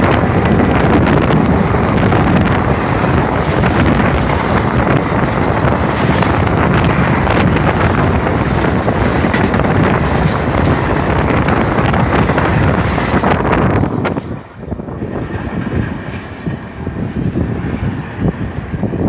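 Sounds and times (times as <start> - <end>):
train passing at speed: 0.0 - 19.0
wind buffeting microphone: 0.0 - 19.0.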